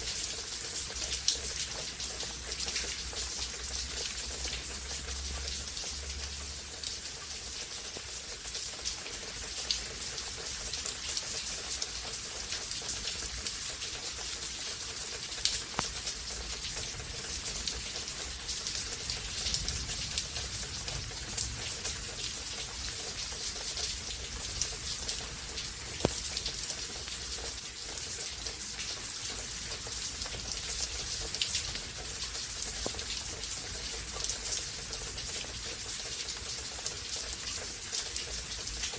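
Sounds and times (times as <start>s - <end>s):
raindrops tapping a surface: 0.0s - 38.9s
steady rain hiss: 0.0s - 38.9s.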